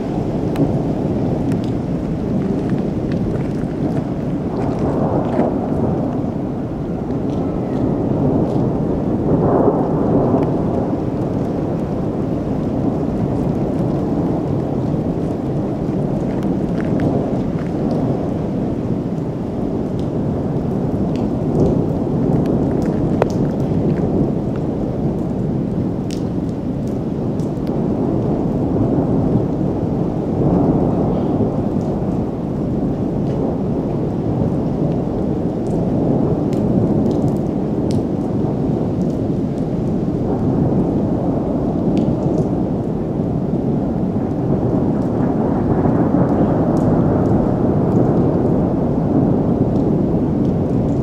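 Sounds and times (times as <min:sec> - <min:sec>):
rain falling: 0:00.0 - 0:51.0
thunder rumble: 0:00.0 - 0:51.0.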